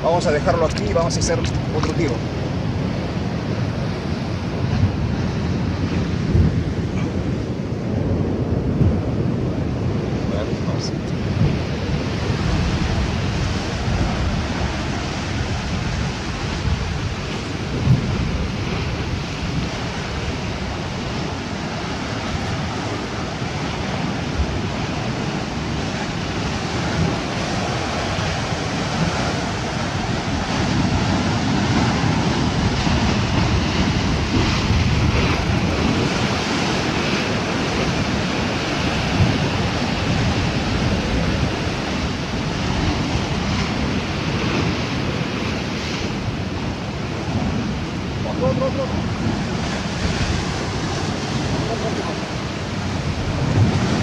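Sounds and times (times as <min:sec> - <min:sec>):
sea waves washing: 0:00.0 - 0:54.0
wind buffeting microphone: 0:00.0 - 0:54.0.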